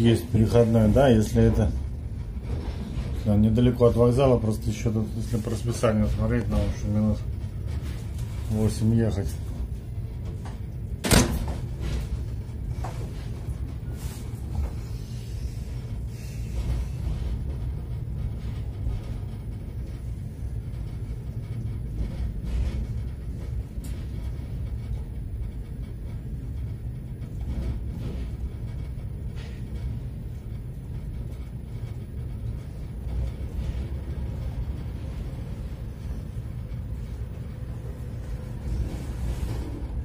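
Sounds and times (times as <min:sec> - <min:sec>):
train carriage rumbling on rails: 0:00.0 - 0:40.0.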